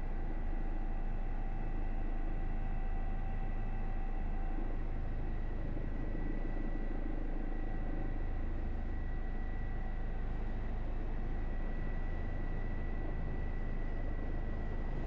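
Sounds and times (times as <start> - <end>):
helicopter turbine and rotor noise: 0.0 - 15.0.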